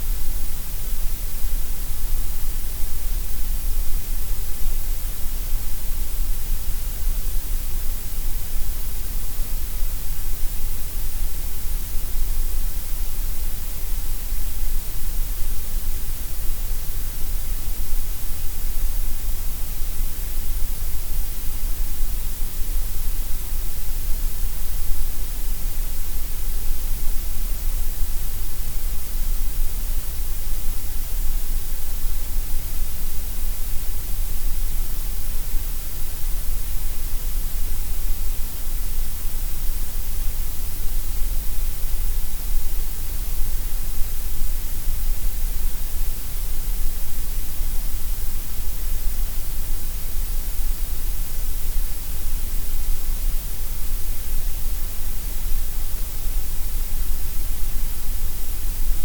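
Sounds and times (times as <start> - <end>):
steady gray noise hiss: 0.0 - 59.0.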